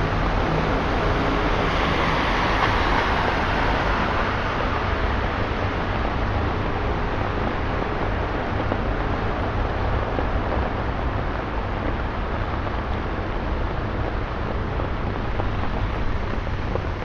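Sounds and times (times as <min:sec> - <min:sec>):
rain: 0:00.0 - 0:17.0
traffic noise: 0:00.0 - 0:17.0.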